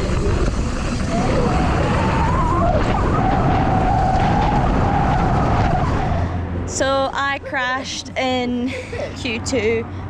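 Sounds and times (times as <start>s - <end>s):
wavering whine: 0.0s - 8.4s.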